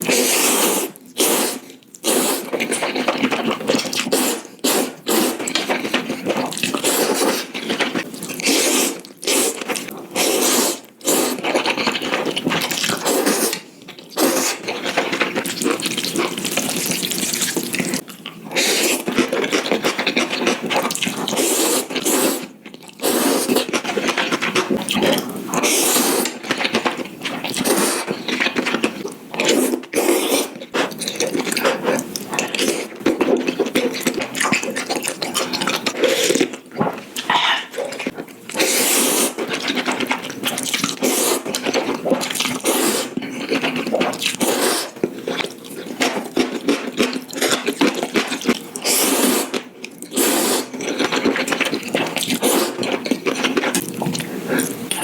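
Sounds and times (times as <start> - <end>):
slurping and chewing noodles: 0.0 - 55.0.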